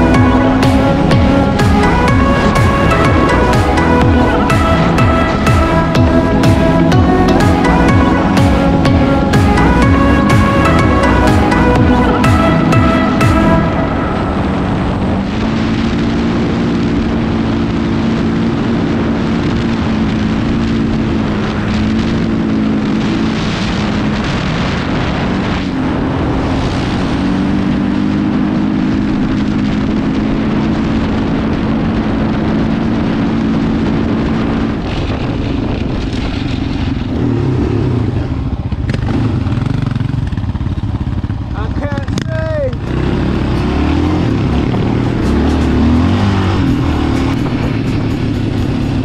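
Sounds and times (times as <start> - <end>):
continuous rushing noise: 0.0 - 49.0
vehicle engine cruising: 0.0 - 49.0.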